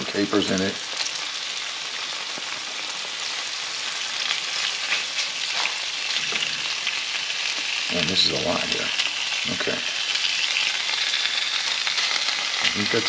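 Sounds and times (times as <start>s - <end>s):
fish fillets sizzling in a pan: 0.0s - 13.0s.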